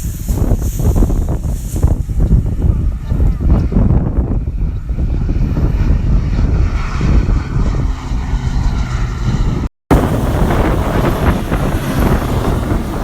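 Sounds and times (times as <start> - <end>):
low engine drone: 0.0 - 13.0
wind buffeting microphone: 0.0 - 13.0.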